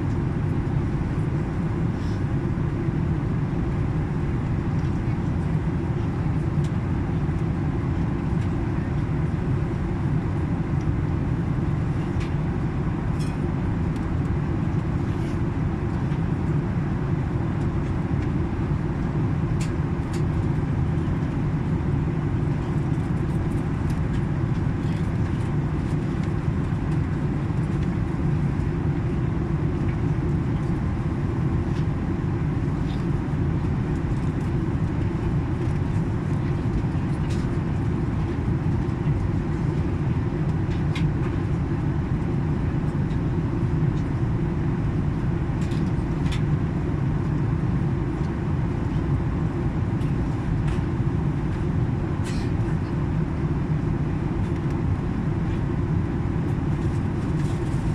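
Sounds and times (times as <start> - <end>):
airliner cabin rumble: 0.0 - 57.9.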